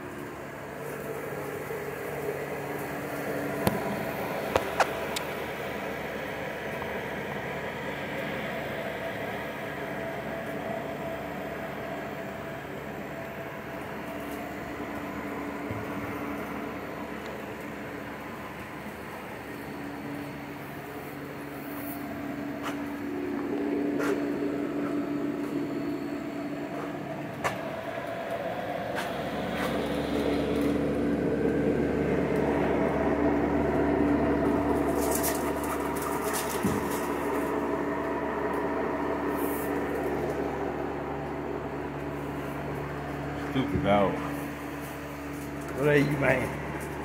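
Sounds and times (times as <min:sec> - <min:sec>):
mechanical hum with tone: 0:00.0 - 0:47.0.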